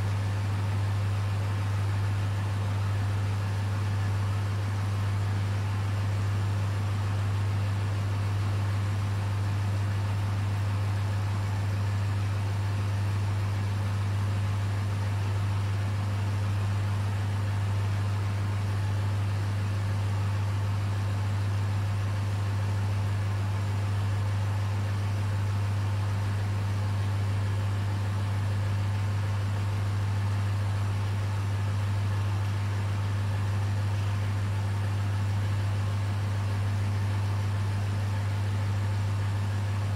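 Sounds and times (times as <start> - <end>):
aquarium pump hum: 0.0 - 39.9.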